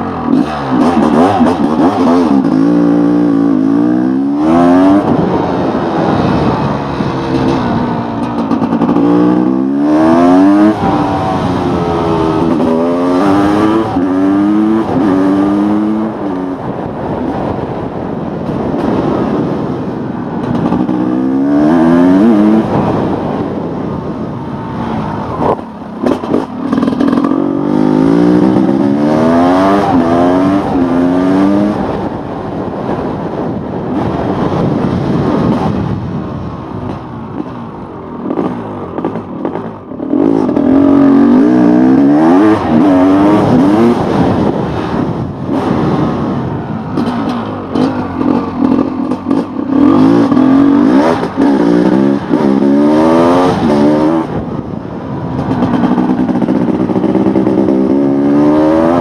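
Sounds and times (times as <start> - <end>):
motorbike engine accelerating: 0.0 - 17.9, 18.7 - 36.2, 38.2 - 59.0.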